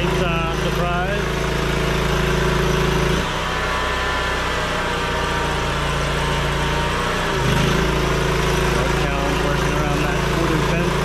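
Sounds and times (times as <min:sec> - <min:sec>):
pressure washer engine running: 0:00.0 - 0:11.0.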